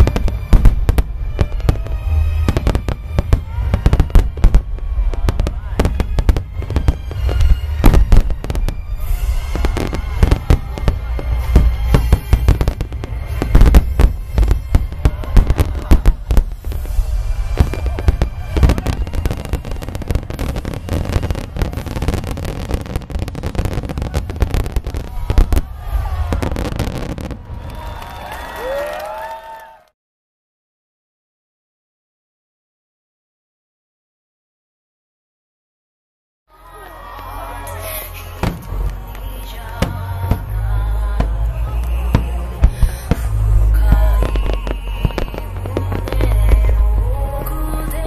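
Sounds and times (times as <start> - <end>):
firework crackle: 0.0 - 29.2, 37.2 - 48.0.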